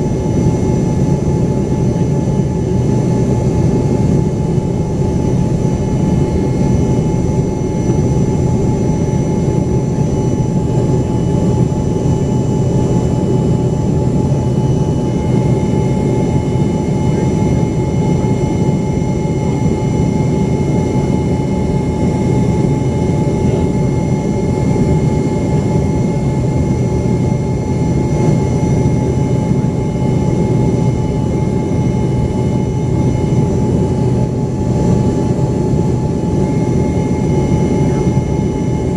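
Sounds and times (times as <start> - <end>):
aircraft cabin engine roar: 0.0 - 38.9
steady engine whine: 0.0 - 38.9.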